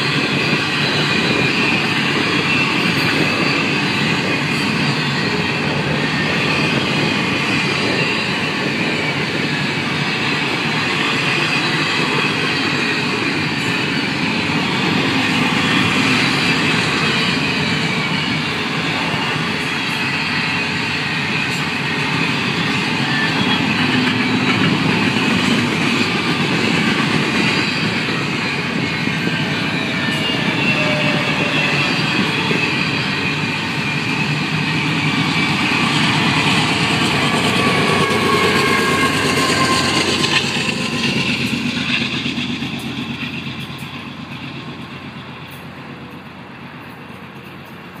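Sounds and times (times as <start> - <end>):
faint high squealing: 0.0 - 44.8
train wheels rumbling on rail: 0.0 - 48.0.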